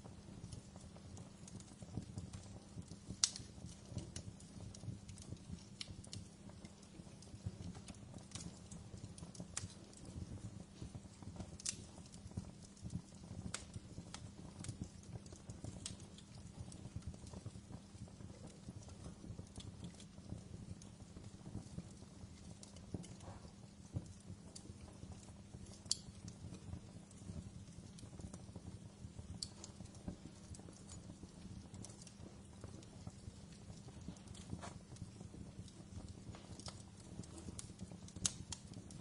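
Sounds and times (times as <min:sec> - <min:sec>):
fire crackles and pops: 0:00.0 - 0:39.0
low rumble of flames: 0:00.0 - 0:39.0.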